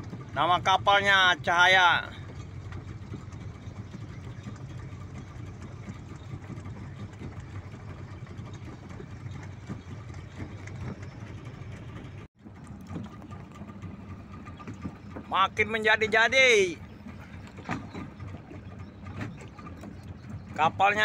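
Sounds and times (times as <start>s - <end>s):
boat engine humming: 0.0s - 21.0s.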